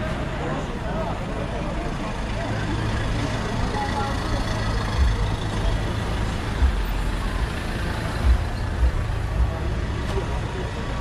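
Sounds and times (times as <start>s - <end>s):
street noise: 0.0s - 11.0s
van engine running: 0.0s - 11.0s.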